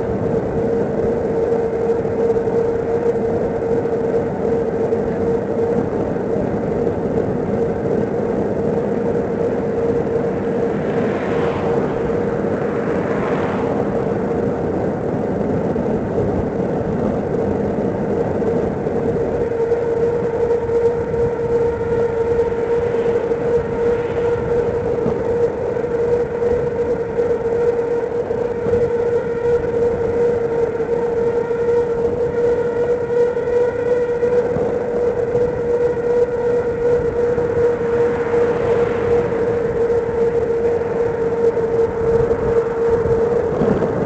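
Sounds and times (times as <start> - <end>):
cars passing: 0.0 - 44.0
steady hum: 0.0 - 44.0
wind and road noise: 0.0 - 44.0.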